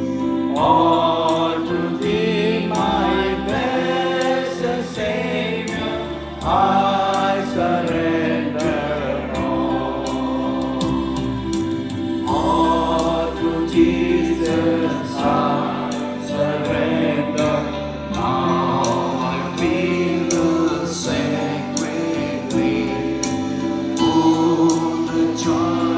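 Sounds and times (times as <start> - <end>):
choir singing a hymn: 0.0 - 25.9
instrumental accompaniment with beat: 0.0 - 25.9.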